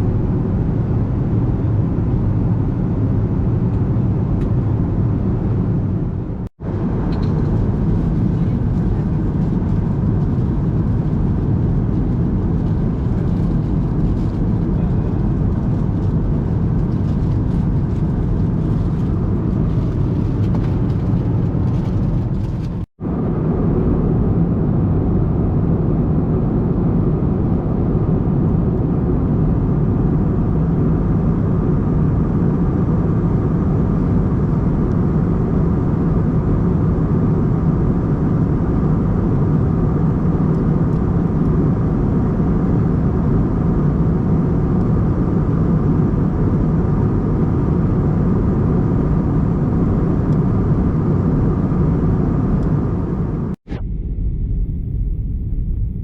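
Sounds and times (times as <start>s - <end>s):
airplane cabin engine rush: 0.0s - 56.0s
faint hum: 0.0s - 56.0s.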